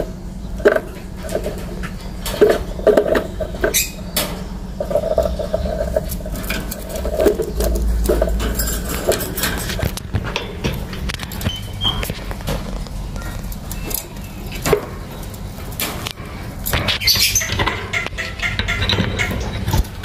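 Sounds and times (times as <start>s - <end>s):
lovebirds chattering: 0.0s - 20.0s
steady low hum: 0.0s - 20.0s.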